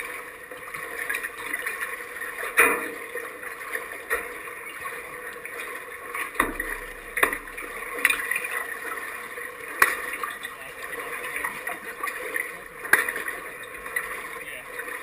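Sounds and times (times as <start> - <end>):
water lapping against kayak hull: 0.0 - 15.0.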